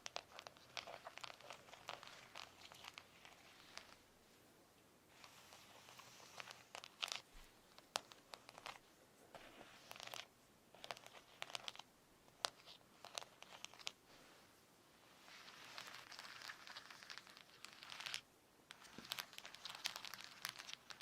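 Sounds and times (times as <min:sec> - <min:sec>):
scratchy rustling: 0:00.0 - 0:04.1, 0:05.1 - 0:21.0.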